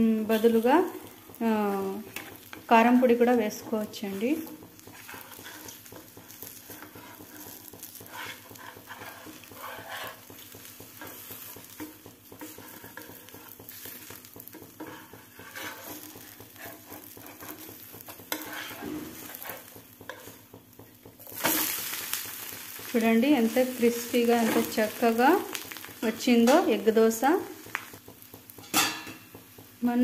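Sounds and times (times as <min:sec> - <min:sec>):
batter sizzling in oil: 0:00.0 - 0:30.0.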